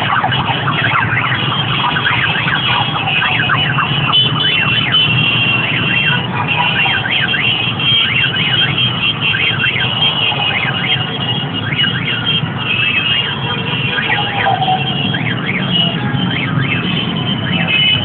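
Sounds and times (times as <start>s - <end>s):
crowd din: 0.0s - 18.0s.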